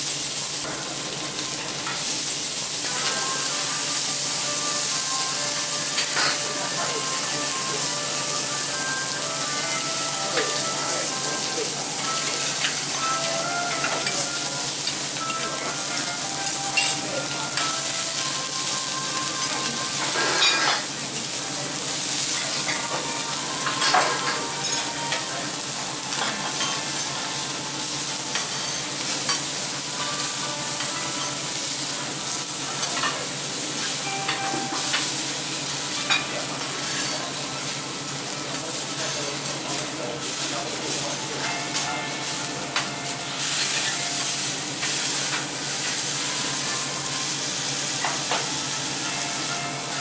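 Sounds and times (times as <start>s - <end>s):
food sizzling on a griddle: 0.0s - 50.0s.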